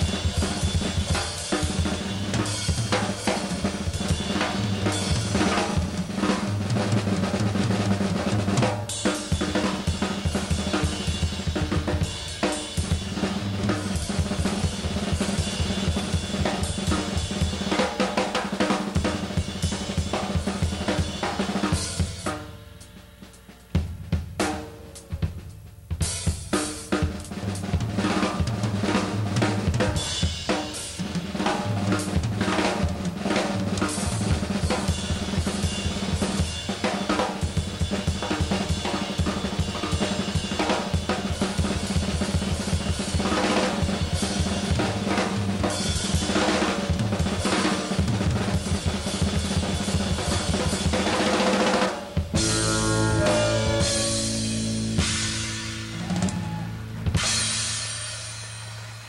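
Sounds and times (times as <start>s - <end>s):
drum kit solo: 0.0s - 59.0s.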